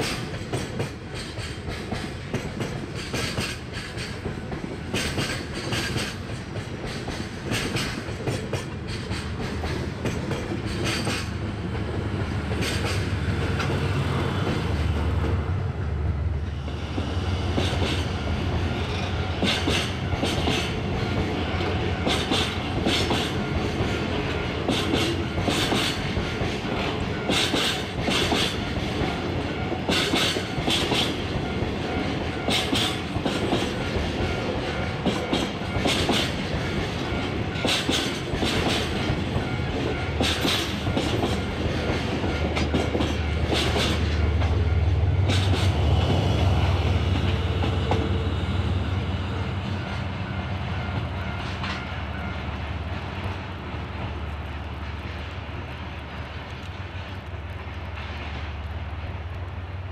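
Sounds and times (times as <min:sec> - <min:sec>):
train wheels clacking over rail joints: 0:00.0 - 0:15.4, 0:16.4 - 0:58.8
diesel locomotive engine rumble: 0:00.0 - 0:59.9.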